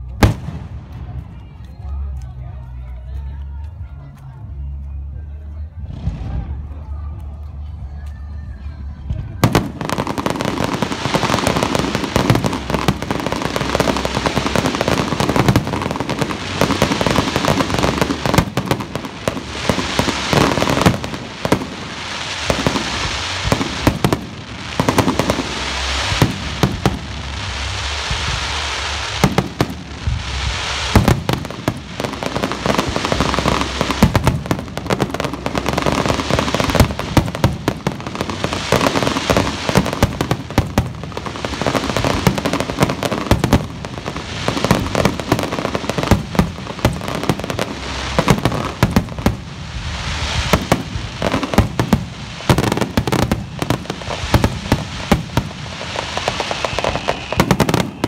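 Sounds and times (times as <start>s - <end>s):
fireworks booming: 0.0s - 1.3s, 9.1s - 58.0s
fireworks crackling: 0.0s - 58.0s.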